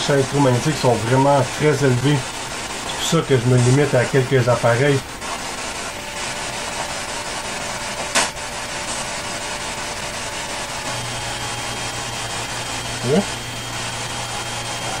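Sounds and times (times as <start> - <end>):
freezer compressor hum: 0.0 - 15.0.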